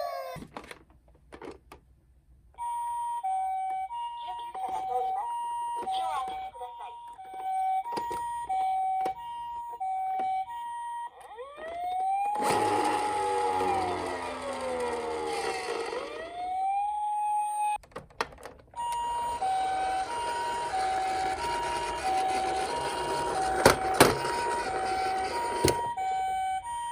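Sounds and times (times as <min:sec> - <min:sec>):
toy ambulance hi-lo siren: 0:00.0 - 0:00.4, 0:02.6 - 0:17.8, 0:18.8 - 0:26.9
toy police siren wailing: 0:00.0 - 0:00.4, 0:02.6 - 0:17.8, 0:18.8 - 0:26.9.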